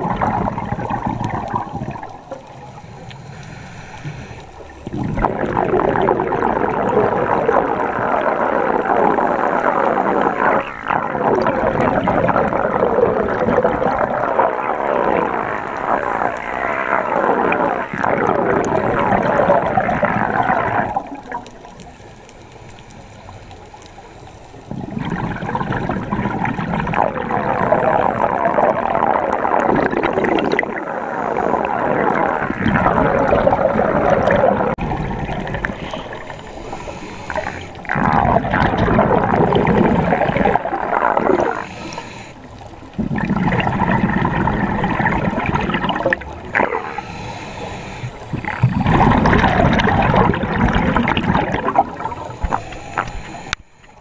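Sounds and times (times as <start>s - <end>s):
underwater breath bubbles: 0.0s - 54.0s.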